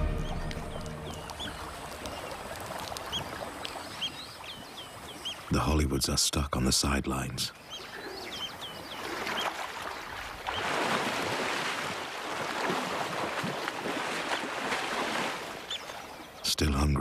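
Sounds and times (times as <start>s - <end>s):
water splashing and churning: 0.0s - 5.8s, 7.5s - 16.5s.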